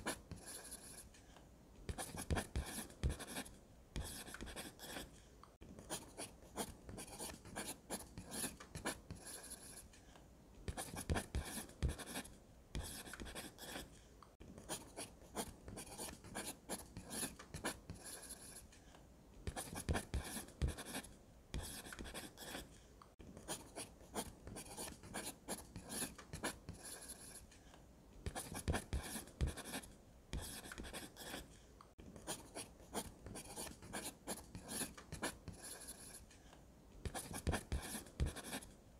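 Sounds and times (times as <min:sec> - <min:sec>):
pencil scratching on paper: 0:00.0 - 0:01.2, 0:01.9 - 0:05.2, 0:05.8 - 0:09.9, 0:10.7 - 0:18.7, 0:19.4 - 0:22.8, 0:23.4 - 0:27.5, 0:28.2 - 0:31.6, 0:32.2 - 0:36.3, 0:37.1 - 0:38.8.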